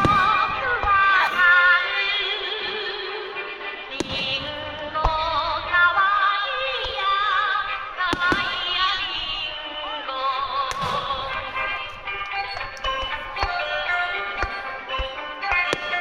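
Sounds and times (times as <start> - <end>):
firework shells bursting: 0.0 - 16.0
pop song over loudspeakers: 0.0 - 16.0.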